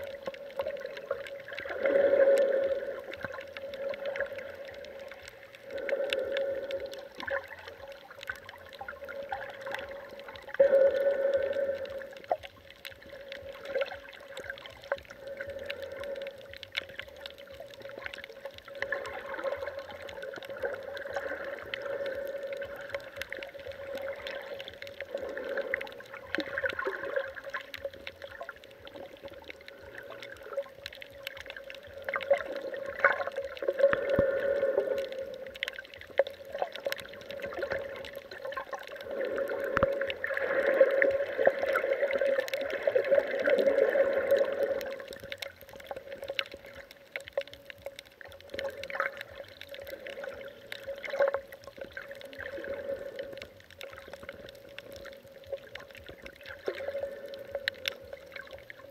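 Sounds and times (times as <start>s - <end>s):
muffled underwater sloshing: 0.0s - 58.9s.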